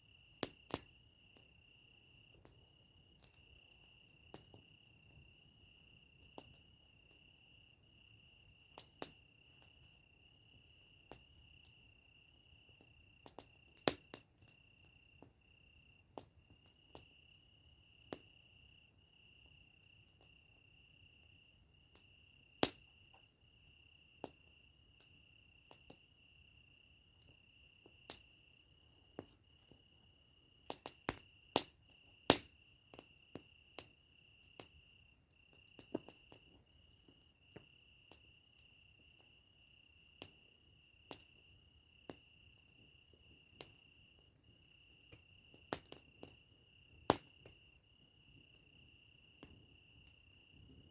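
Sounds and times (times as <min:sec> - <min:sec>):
crickets trilling: 0:00.0 - 0:50.9
campfire crackling and popping: 0:00.1 - 0:50.9.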